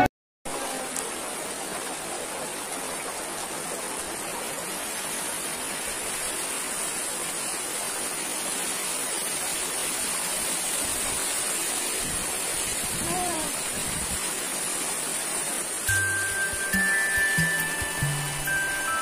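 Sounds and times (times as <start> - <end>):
water rushing over rocks: 0.5 - 19.0.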